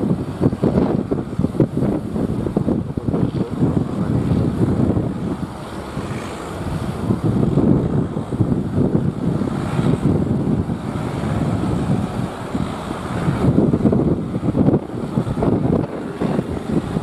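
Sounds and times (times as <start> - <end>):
breaking surf: 0.0 - 17.0
wind buffeting microphone: 0.0 - 17.0.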